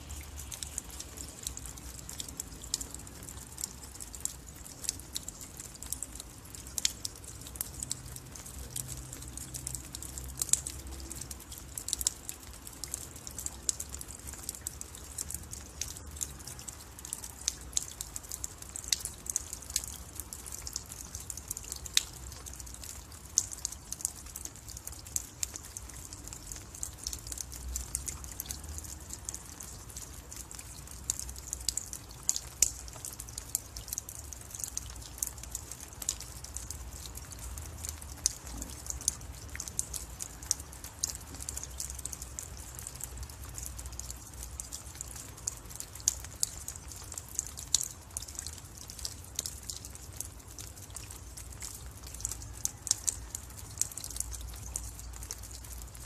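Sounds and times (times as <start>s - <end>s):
rain dripping: 0.0s - 56.0s.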